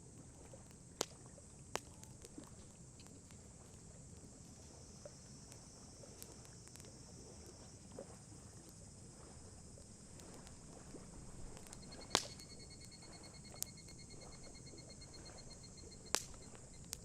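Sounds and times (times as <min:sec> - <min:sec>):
campfire crackling: 0:00.0 - 0:17.0
low steady rumble: 0:00.0 - 0:17.0.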